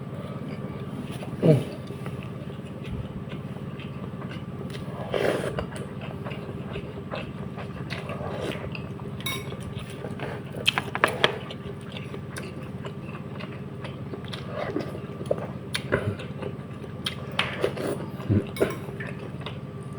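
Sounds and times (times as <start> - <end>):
steady low hum: 0.0 - 19.9
person chewing and smacking: 0.4 - 19.9.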